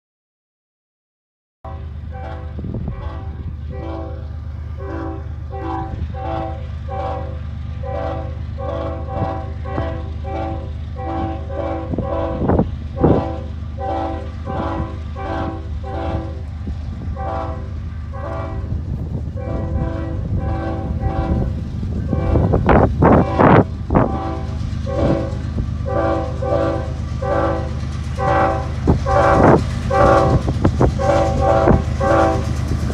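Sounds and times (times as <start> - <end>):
diesel locomotives running: 1.7 - 32.9.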